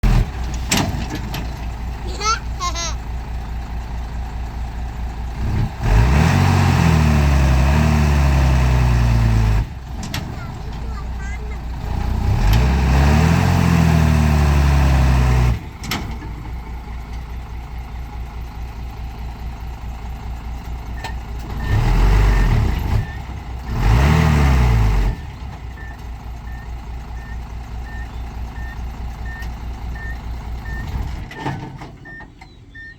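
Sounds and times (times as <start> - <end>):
truck engine revving: 0.0 - 17.6, 20.8 - 32.9.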